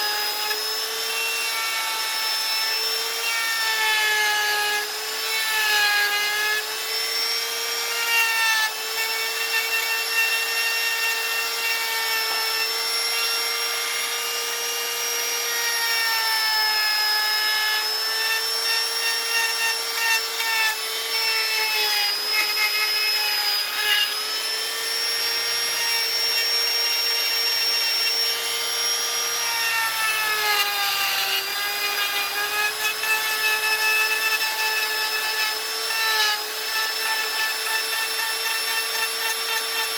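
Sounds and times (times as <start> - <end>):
rotary tool cutting wood: 0.0 - 39.9.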